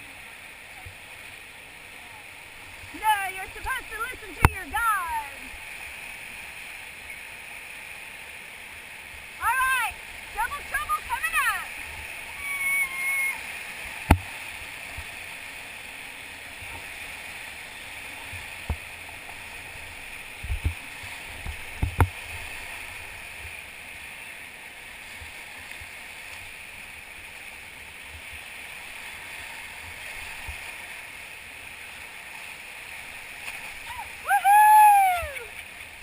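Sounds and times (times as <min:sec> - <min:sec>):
whitewater rushing: 0:00.0 - 0:36.0.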